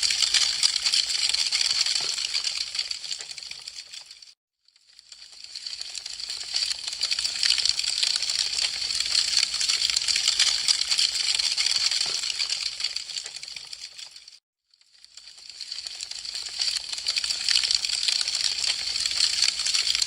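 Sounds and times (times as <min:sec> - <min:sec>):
wood fire crackling: 0:00.0 - 0:04.3, 0:05.2 - 0:14.3, 0:15.2 - 0:20.0.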